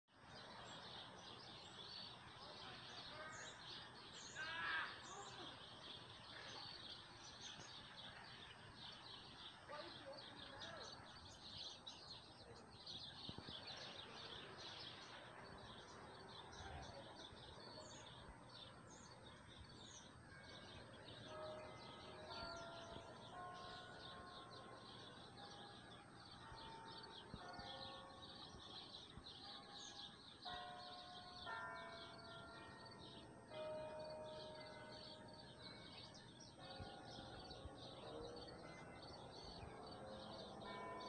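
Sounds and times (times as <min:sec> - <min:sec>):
birds chirping and twittering: 0:00.1 - 0:41.0.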